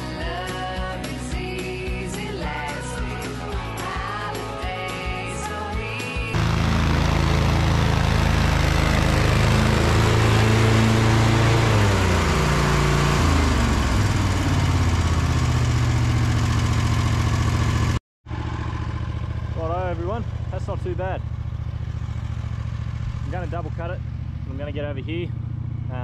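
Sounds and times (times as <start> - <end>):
mower engine running: 0.0 - 26.0.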